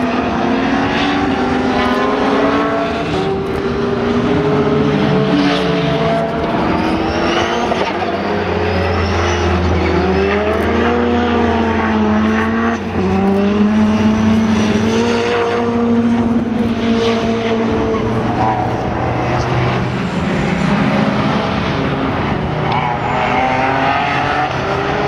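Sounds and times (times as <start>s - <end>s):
racing car engines revving: 0.0s - 25.0s.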